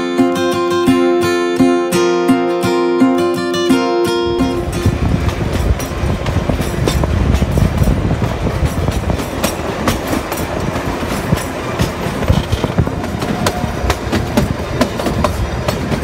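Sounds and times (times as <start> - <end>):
wheels rumbling on rail: 0.0 - 16.0
rail joints clacking: 0.1 - 16.0.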